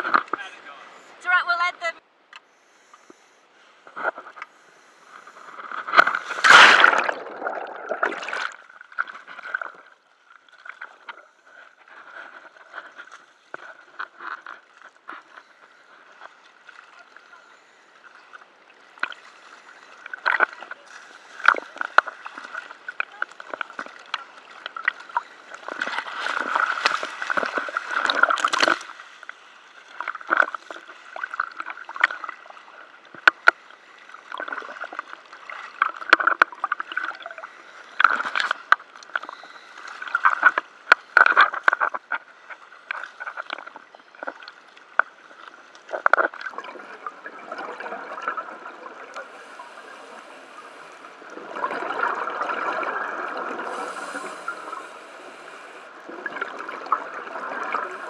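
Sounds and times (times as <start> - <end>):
sea water sloshing and splashing: 2.6 - 58.0.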